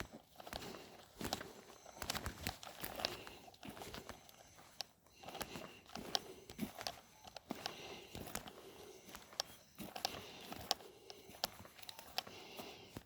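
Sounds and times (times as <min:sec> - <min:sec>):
footsteps with crunches: 0:00.0 - 0:13.0.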